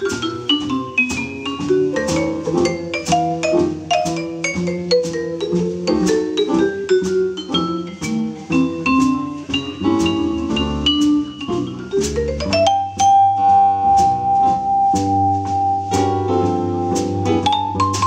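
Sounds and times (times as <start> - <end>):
double bass: 0.0 - 18.0
drums: 0.0 - 18.0
keyboard: 0.0 - 18.0
vibraphone played with mallets: 0.0 - 18.0.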